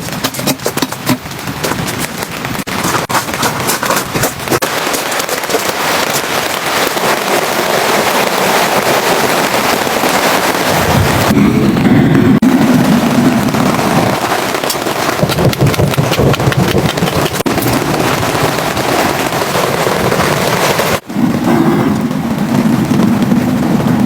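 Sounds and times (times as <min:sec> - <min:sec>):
rain on a hard surface: 0:00.0 - 0:24.0.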